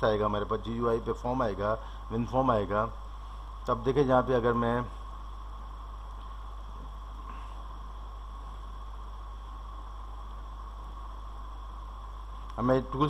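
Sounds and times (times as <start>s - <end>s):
faint steady whine: 0.0s - 13.0s
low electrical hum: 0.0s - 13.0s.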